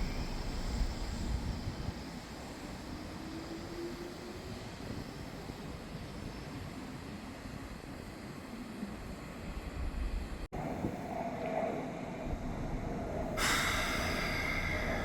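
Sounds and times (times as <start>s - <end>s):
electric train passing: 0.0s - 8.4s, 9.1s - 15.0s.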